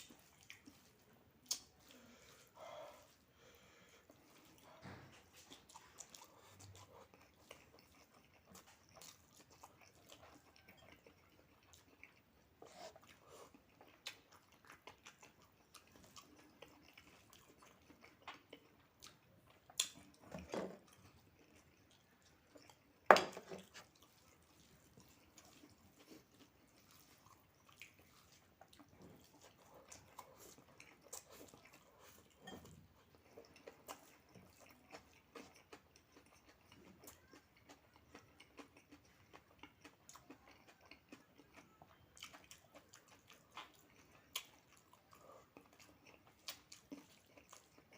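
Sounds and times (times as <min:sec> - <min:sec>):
chewing and mouth sounds: 0:00.0 - 0:47.9.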